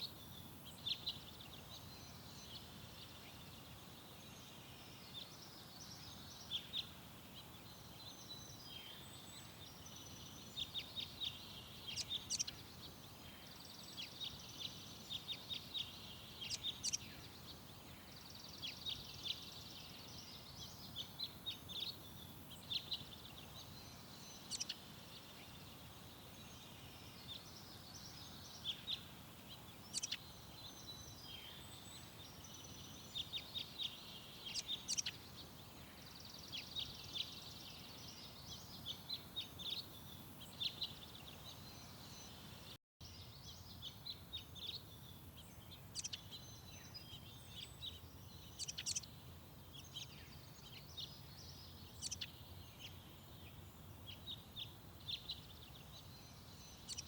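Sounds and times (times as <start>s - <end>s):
faint steady background noise: 0.0s - 57.0s
songbirds chirping and trilling: 0.0s - 57.0s.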